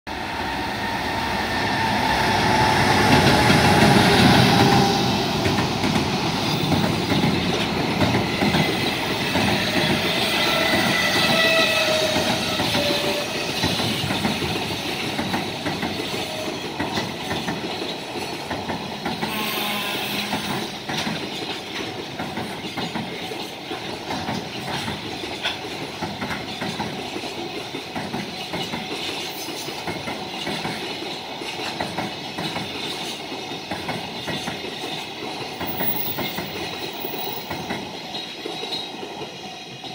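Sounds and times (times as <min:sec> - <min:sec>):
freight train passing: 0:00.1 - 0:39.9.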